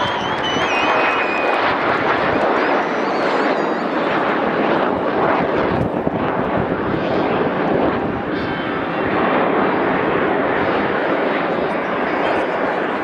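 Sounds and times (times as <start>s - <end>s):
jets flying overhead: 0.0s - 13.0s.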